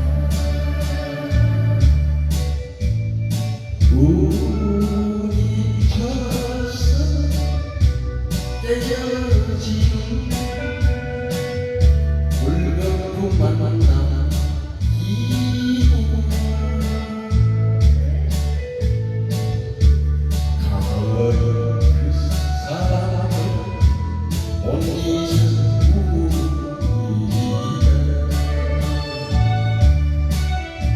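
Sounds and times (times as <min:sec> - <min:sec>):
person singing: 0:00.0 - 0:02.9, 0:03.8 - 0:19.7, 0:20.4 - 0:30.9
band with guitar and bass: 0:00.0 - 0:30.9.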